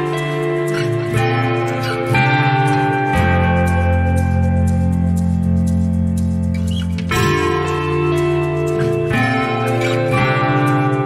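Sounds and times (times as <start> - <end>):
sustained instrumental music: 0.0 - 11.0.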